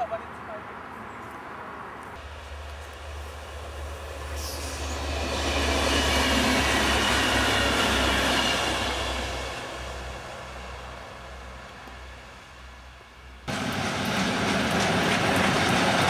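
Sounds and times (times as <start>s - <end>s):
diesel train passing by: 1.7s - 16.0s.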